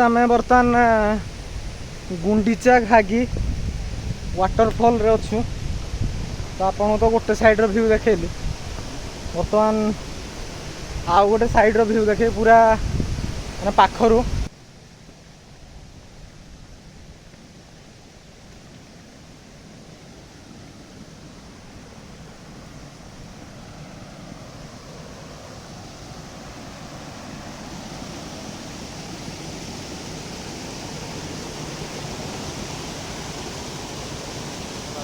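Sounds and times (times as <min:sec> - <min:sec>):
waterfall rushing: 0:00.0 - 0:14.5, 0:17.2 - 0:35.0.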